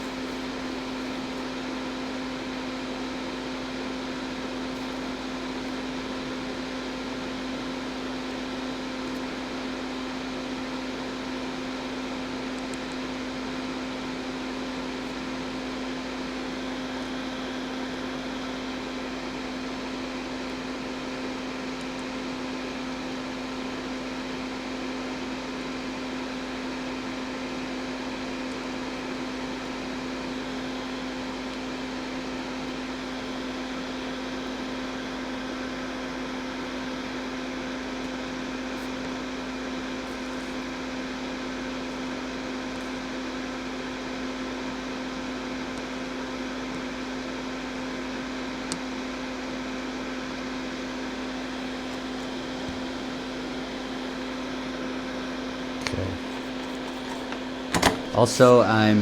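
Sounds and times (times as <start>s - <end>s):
electric fan whirring: 0.0s - 59.0s.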